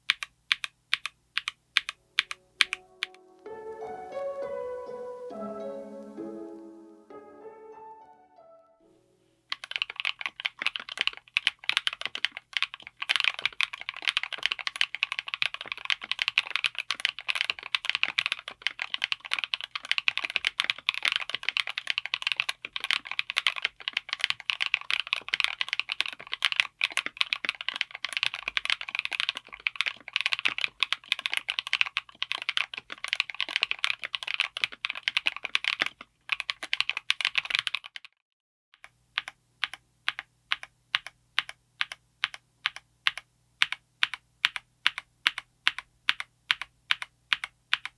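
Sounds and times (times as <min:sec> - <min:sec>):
mechanical keyboard typing: 0:00.0 - 0:03.2, 0:09.5 - 0:38.1, 0:38.8 - 0:47.9.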